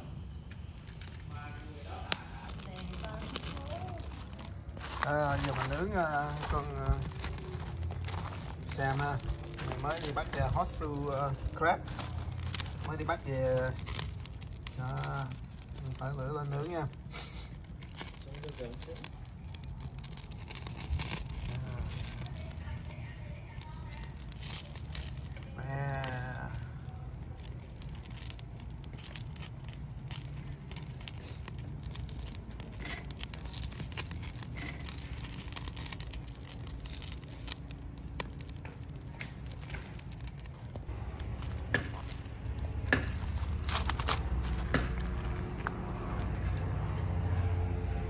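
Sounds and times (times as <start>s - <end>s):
low rumble: 0.0s - 48.0s
wood fire crackling: 0.0s - 48.0s.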